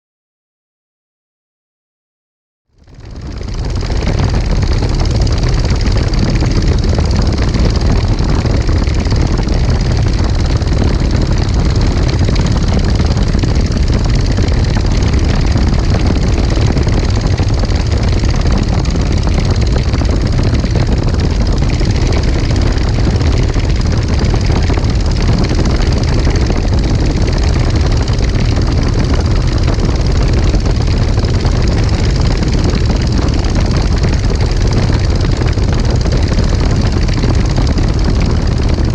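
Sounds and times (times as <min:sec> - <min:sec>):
aircraft engine and propeller drone: 0:02.8 - 0:38.9.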